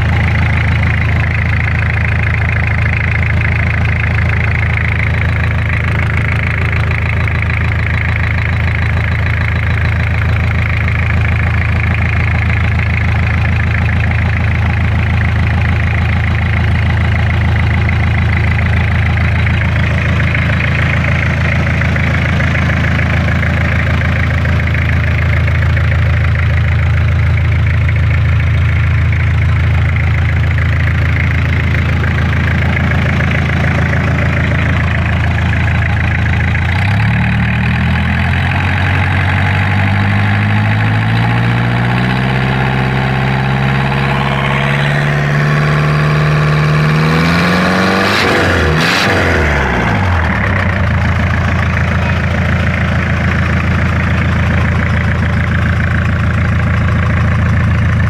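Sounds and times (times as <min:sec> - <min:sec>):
diesel engine idling and revving: 0:00.0 - 0:58.0.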